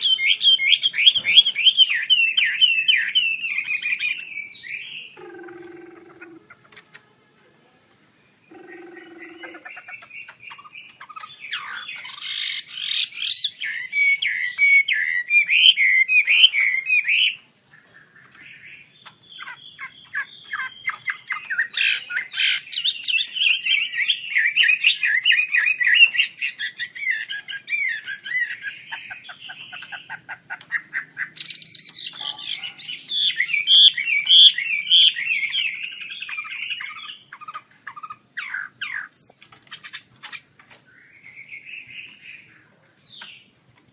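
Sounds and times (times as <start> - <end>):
bird singing whistled notes: 0.0 - 6.4, 8.2 - 17.4, 18.3 - 30.0, 30.7 - 39.5, 40.9 - 43.9.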